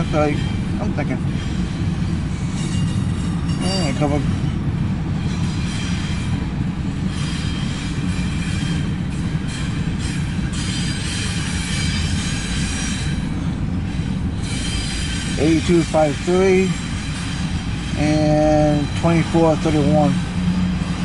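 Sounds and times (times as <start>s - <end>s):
high wheel squeal: 0.0s - 4.6s, 5.2s - 21.0s
steel wheels rumbling on rail: 0.0s - 21.0s.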